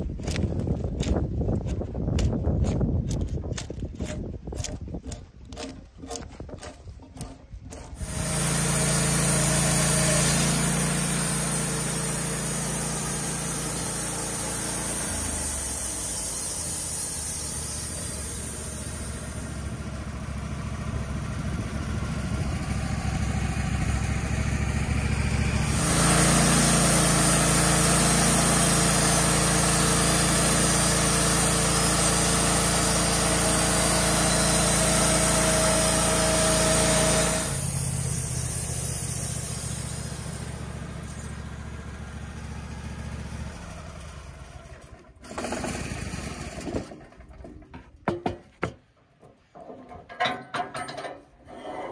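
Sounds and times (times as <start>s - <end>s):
gas engine running: 5.0s - 47.4s.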